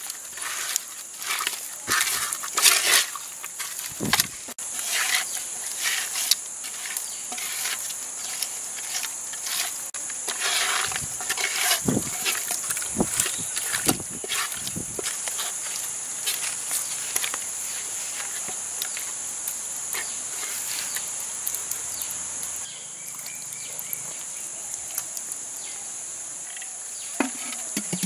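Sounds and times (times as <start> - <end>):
hands squishing wet fish: 0.0 - 25.3
high-pitched insect chorus: 0.0 - 28.0.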